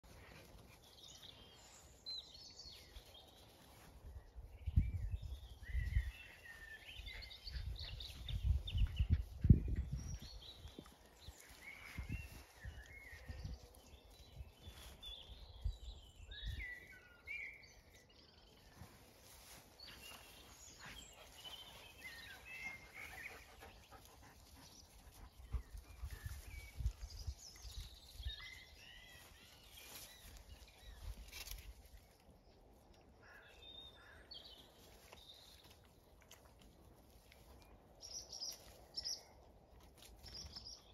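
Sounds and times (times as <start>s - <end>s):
rustles: 0.0s - 17.0s, 18.4s - 33.4s, 34.0s - 40.9s
birds chirping and warbling: 0.1s - 36.1s, 37.2s - 40.9s.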